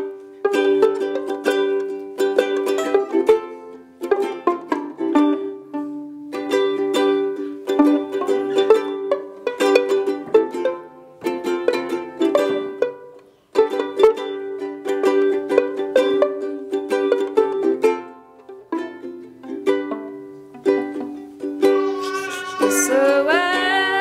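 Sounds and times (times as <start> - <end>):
ukulele strummed chords: 0.0 - 24.0.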